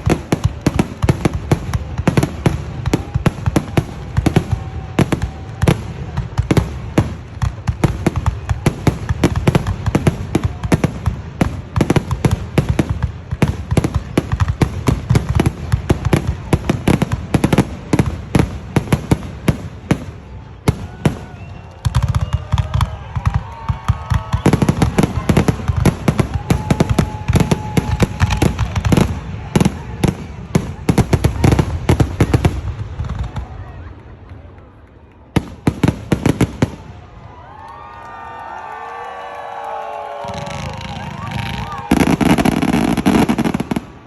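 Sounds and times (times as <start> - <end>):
fireworks bangs: 0.0 - 37.7, 38.4 - 44.0.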